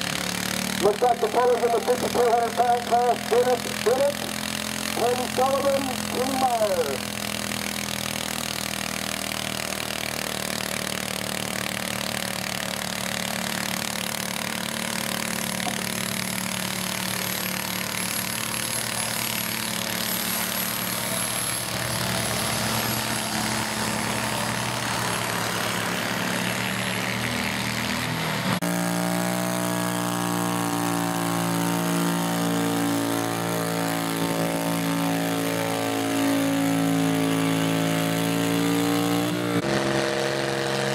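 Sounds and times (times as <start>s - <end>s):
engine running steadily: 0.0s - 40.9s
small tractor engine running: 0.0s - 40.9s.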